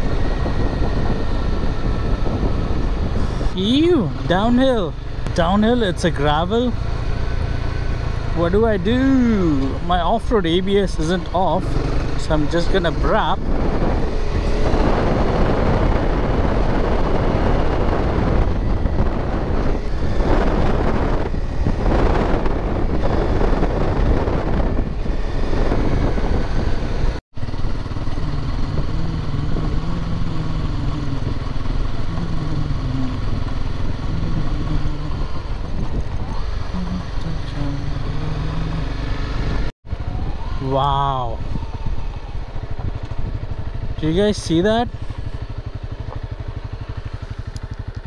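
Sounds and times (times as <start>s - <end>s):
motorcycle engine: 0.0s - 48.0s.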